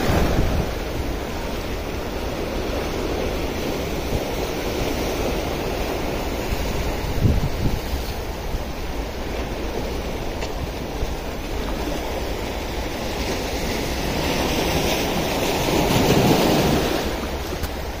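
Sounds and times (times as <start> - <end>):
waves breaking over rocks: 0.0 - 18.0
wind buffeting microphone: 0.0 - 18.0.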